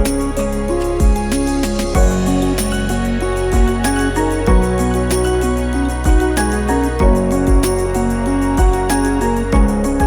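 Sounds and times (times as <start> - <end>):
bass beat: 0.0 - 10.0
gentle keyboard melody: 0.0 - 10.0.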